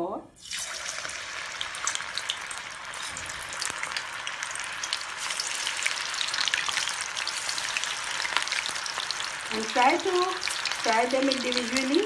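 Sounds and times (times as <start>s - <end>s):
frying in hot oil: 0.4s - 12.0s.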